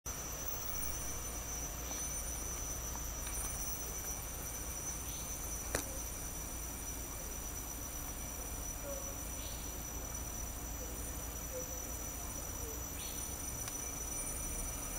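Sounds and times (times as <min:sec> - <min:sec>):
high-pitched insect tone: 0:00.1 - 0:14.9.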